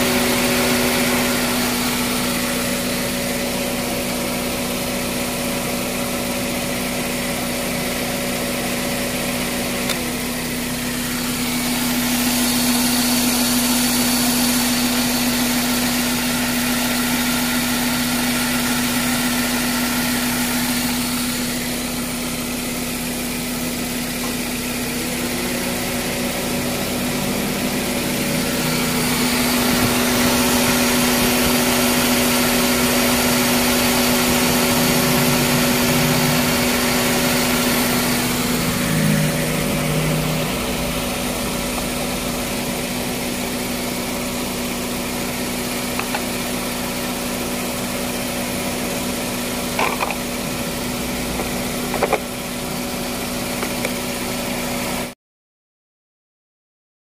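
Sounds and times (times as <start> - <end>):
car engine idling: 0.0 - 55.1.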